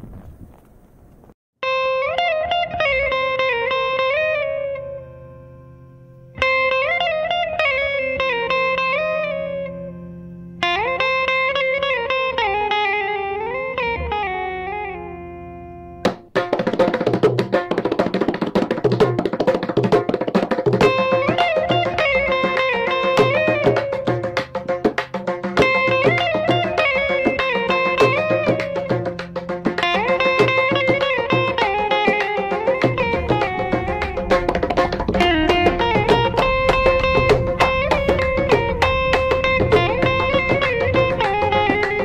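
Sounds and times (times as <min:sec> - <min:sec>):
plucked string instrument melody: 0:01.6 - 0:42.0.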